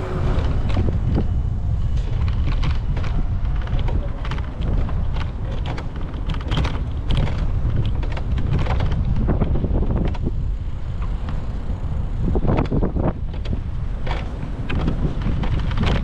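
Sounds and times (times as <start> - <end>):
bicycle rattles and knocks: 0.0 - 16.0
wind buffeting microphone: 0.0 - 16.0.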